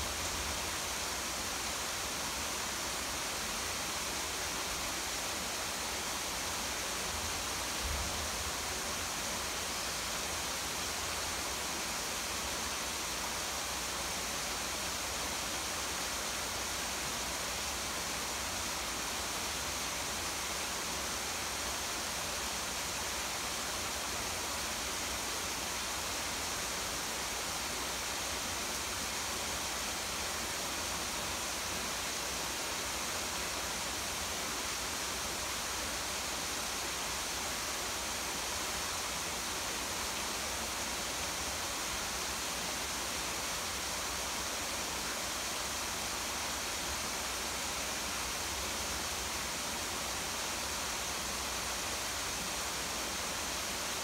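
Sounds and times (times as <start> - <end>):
falling rain: 0.0 - 54.0.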